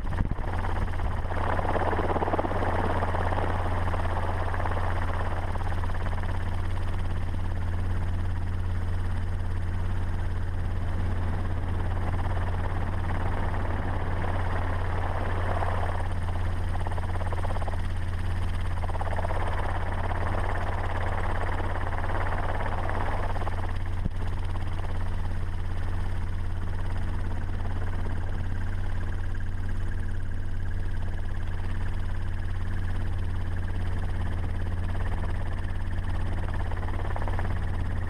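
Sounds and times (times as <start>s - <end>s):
low engine drone: 0.0s - 38.0s.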